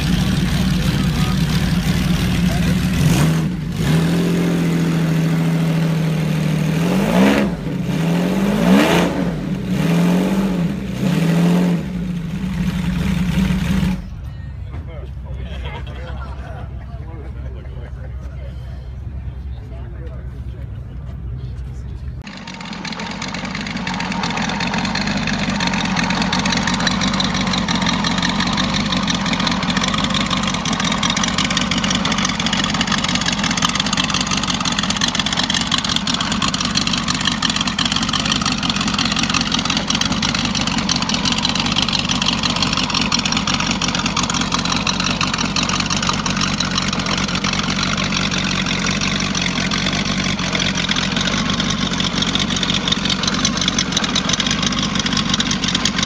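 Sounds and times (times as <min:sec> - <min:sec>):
motorcycle engine idling: 0:00.0 - 0:03.8, 0:11.9 - 0:15.0, 0:15.6 - 0:56.0.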